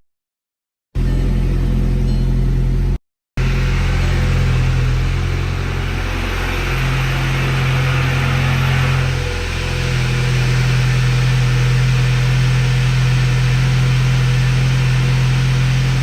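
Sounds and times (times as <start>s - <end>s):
car engine droning: 1.0s - 16.0s.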